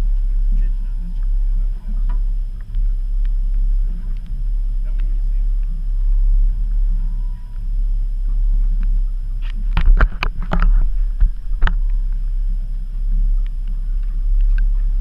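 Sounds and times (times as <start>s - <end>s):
boat low rumble: 0.0s - 15.0s.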